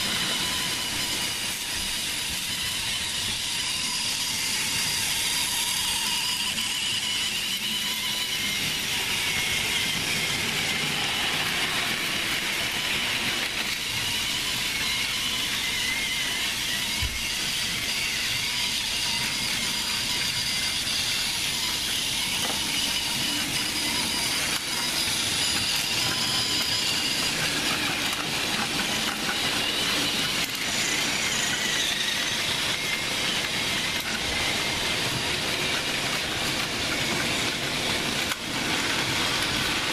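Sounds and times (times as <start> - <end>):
high whining tones: 0.0 - 39.9
toy train motors whirring: 0.0 - 39.9.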